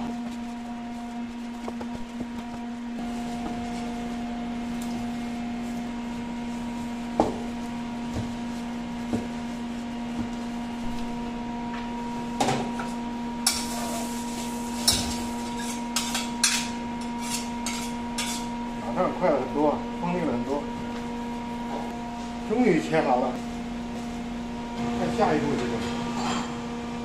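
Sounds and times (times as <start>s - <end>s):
machinery hum: 0.0s - 27.0s.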